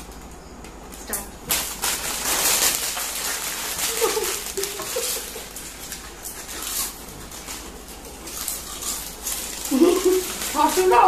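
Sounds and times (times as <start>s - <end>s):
chips being crunched: 1.0s - 11.0s
plastic packets crinkling: 1.0s - 11.0s.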